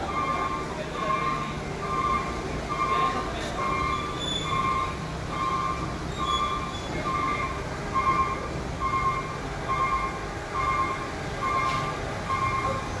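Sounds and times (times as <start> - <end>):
electronic warning beeps: 0.0 - 13.0.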